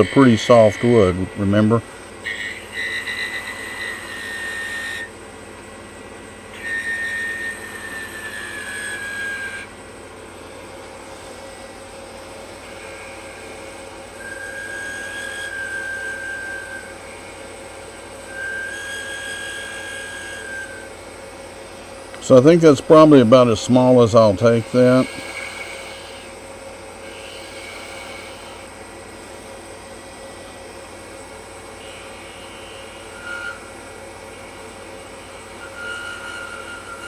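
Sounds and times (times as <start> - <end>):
chisel cutting with whistling whine: 0.0 - 29.1, 29.7 - 37.0
wood lathe humming: 0.0 - 37.0.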